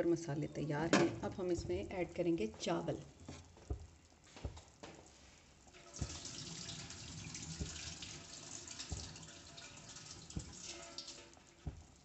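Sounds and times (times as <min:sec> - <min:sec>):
stock boiling in pot: 0:00.0 - 0:12.0.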